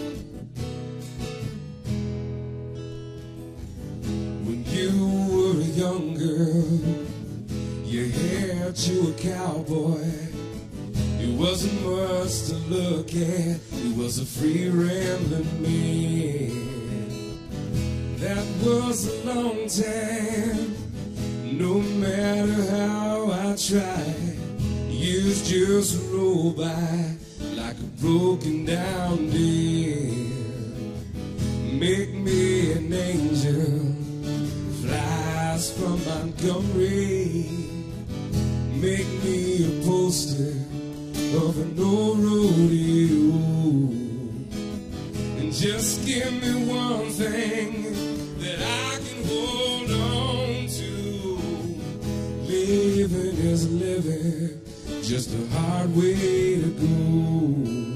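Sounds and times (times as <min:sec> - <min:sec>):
acoustic guitar: 0:00.0 - 0:57.9
man singing: 0:04.0 - 0:57.9.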